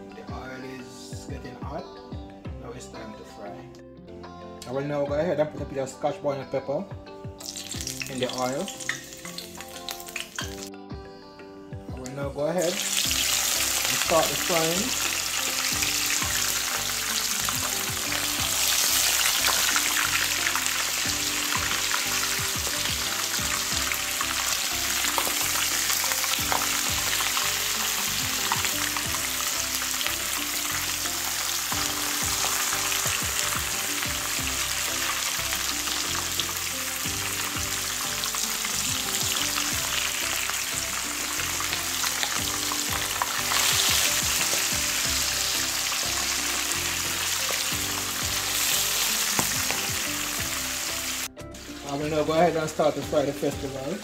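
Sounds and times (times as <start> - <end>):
crackling sizzle of frying: 7.4 - 10.7, 12.6 - 54.0.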